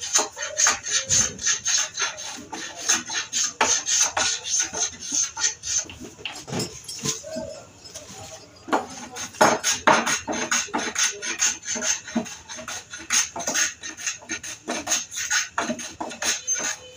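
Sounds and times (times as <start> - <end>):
hand plane rasping on wood: 0.0 - 6.2, 8.7 - 16.9.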